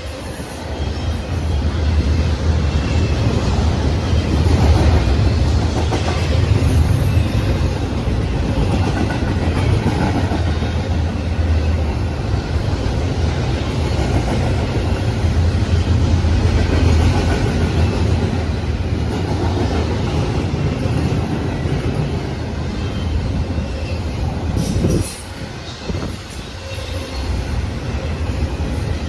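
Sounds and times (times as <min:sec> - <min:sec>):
freight train rumbling on rails: 0:00.0 - 0:29.0.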